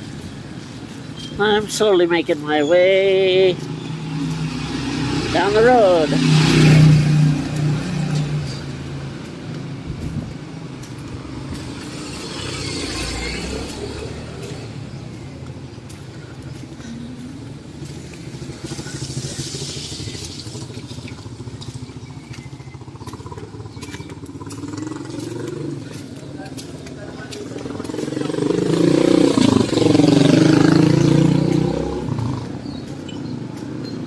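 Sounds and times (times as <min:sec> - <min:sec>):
street hum: 0:00.0 - 0:34.0
vehicles passing: 0:00.0 - 0:34.0.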